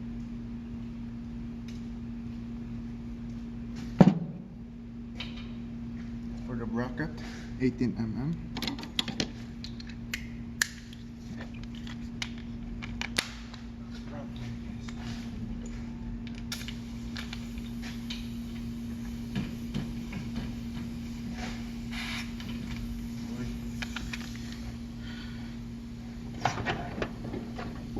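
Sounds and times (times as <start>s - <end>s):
steady hum: 0.0s - 27.9s.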